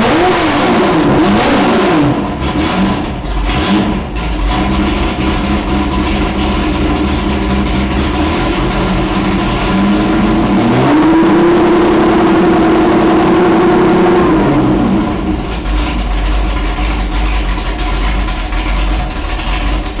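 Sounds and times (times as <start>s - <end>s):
vee eight engine revving and idling: 0.0s - 20.0s.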